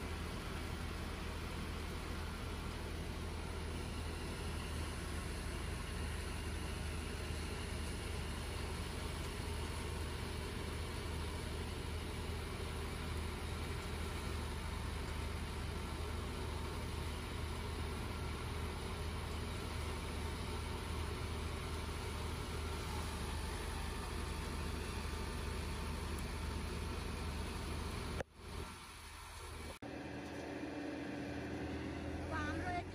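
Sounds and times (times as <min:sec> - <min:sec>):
thresher engine drone: 0:00.0 - 0:32.9.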